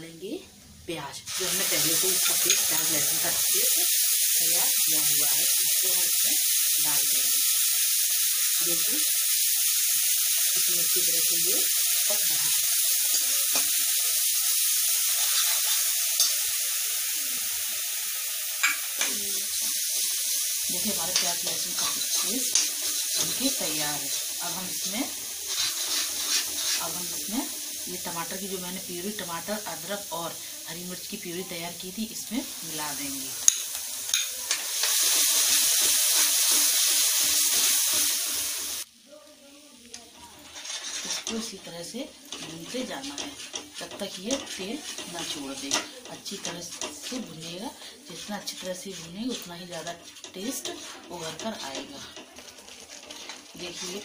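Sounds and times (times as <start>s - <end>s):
paste sizzling in oil: 1.3s - 54.0s.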